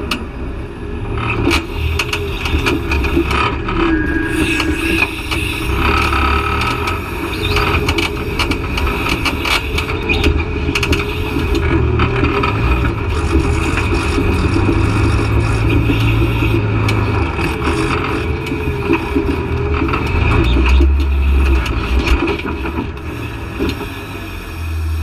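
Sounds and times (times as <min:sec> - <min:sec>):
off-road engine under load: 0:00.0 - 0:25.0.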